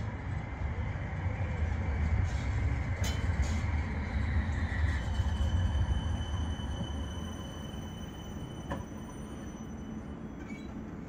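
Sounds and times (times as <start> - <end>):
tram rumbling on track: 0.0 - 11.0.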